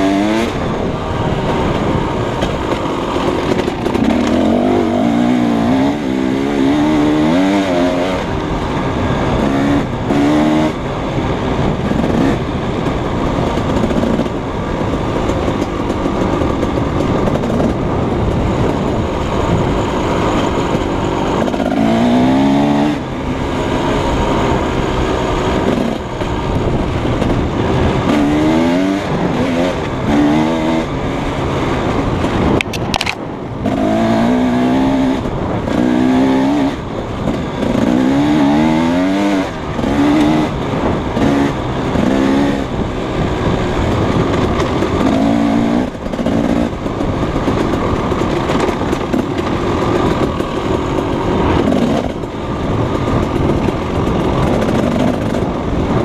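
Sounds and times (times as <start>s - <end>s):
dirt bike engine revving: 0.0s - 56.0s
wind: 0.0s - 56.0s.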